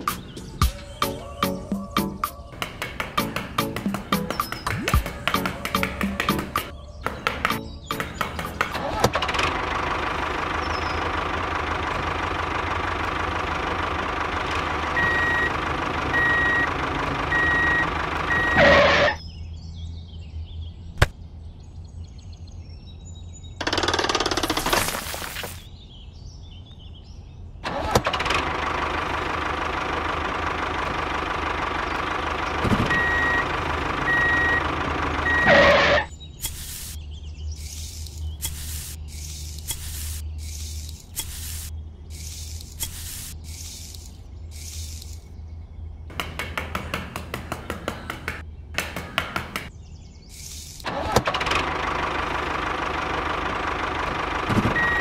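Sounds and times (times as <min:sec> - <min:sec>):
truck engine running: 0:00.0 - 0:19.2, 0:27.6 - 0:45.2, 0:46.1 - 0:49.8, 0:50.8 - 0:55.0.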